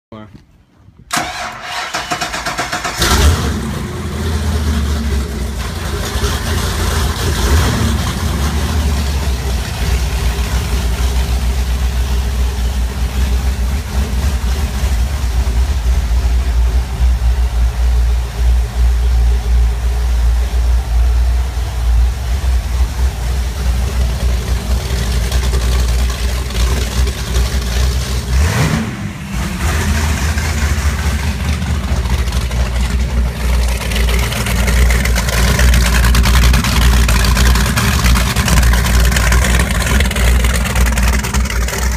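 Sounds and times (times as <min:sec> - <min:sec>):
boat engines idling: 0:01.7 - 0:41.9.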